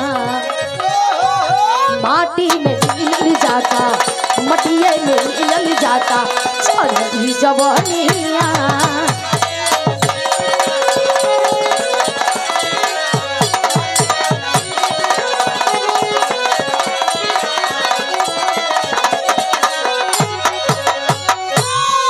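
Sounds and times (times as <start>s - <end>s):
folk music: 0.0s - 22.0s
hand drums fast rhythm: 2.4s - 22.0s.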